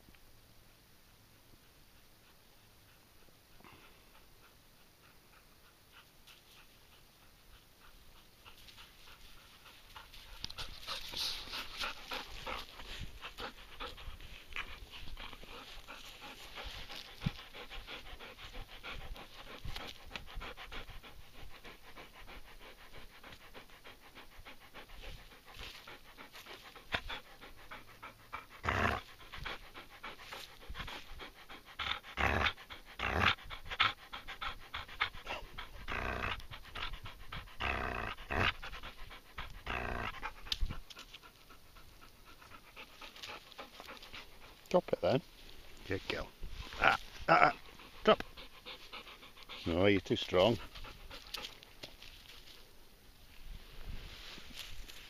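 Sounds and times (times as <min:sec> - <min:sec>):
dog panting hard: 0:01.9 - 0:52.6.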